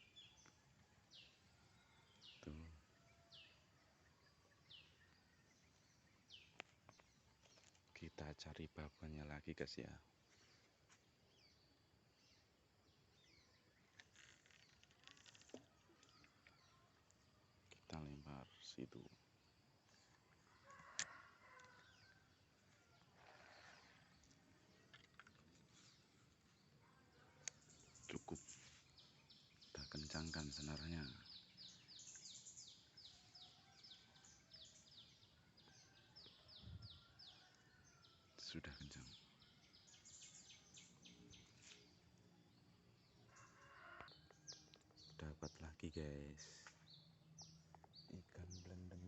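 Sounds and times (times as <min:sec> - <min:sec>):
faint bird chirps: 0:00.0 - 0:49.0.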